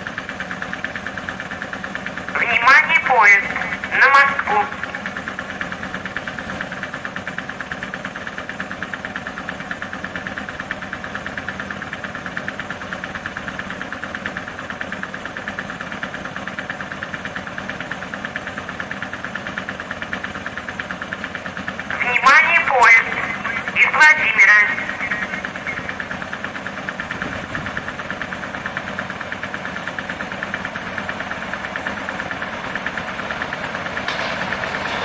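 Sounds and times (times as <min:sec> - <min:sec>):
train equipment humming and pulsing: 0:00.0 - 0:35.0.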